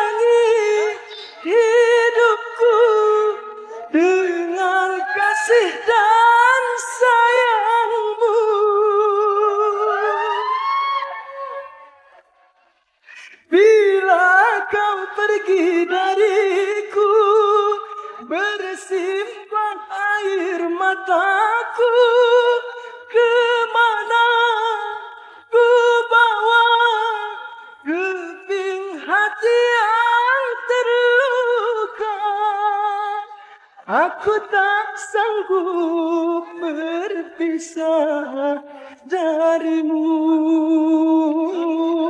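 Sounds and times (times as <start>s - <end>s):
man singing unaccompanied: 0.0s - 10.2s, 13.4s - 42.0s.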